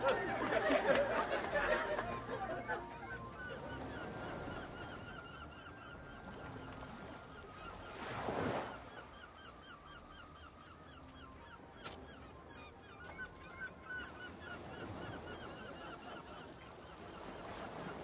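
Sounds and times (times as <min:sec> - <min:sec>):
gulls squawking: 0:00.0 - 0:18.0.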